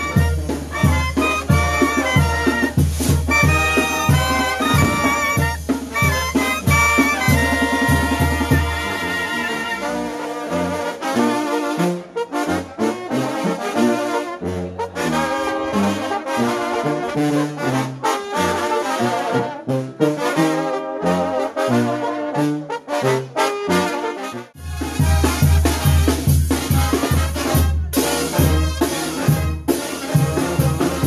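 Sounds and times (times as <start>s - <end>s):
brass band playing: 0.0s - 31.0s.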